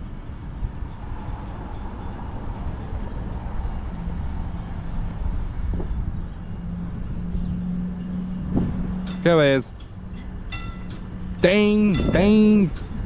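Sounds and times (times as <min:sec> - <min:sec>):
diesel locomotive rumbling: 0:00.0 - 0:13.0.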